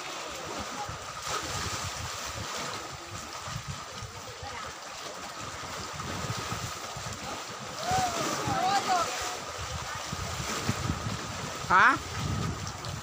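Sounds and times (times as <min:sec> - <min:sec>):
sea waves washing against rocks: 0:00.0 - 0:13.0
wind buffeting microphone: 0:00.5 - 0:13.0.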